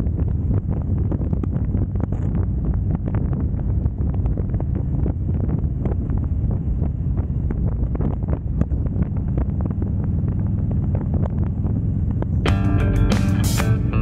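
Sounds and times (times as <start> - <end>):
wind buffeting microphone: 0.0 - 12.6
motorcycle engine drone: 0.0 - 14.0
road noise: 0.0 - 14.0.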